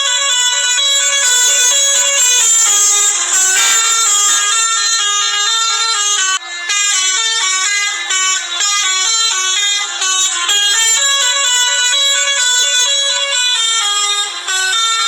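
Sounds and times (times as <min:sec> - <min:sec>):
bus multi-tone horn playing tune: 0:00.0 - 0:15.0.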